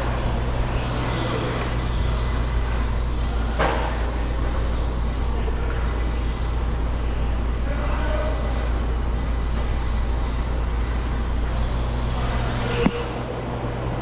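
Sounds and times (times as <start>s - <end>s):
rc trucks humming: 0.0s - 14.0s.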